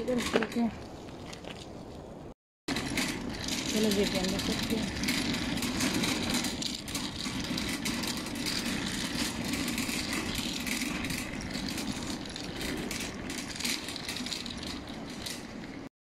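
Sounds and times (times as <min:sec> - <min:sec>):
shopping trolley rattling over asphalt: 0:00.0 - 0:01.3, 0:02.7 - 0:15.9.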